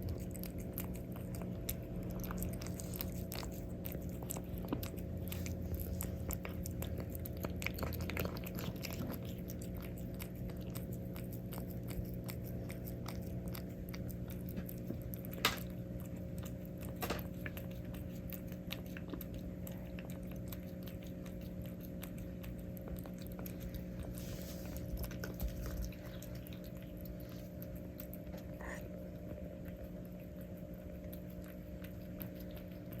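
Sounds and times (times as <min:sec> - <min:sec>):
cat crunching food: 0:00.0 - 0:33.0
steady low hum: 0:00.0 - 0:33.0.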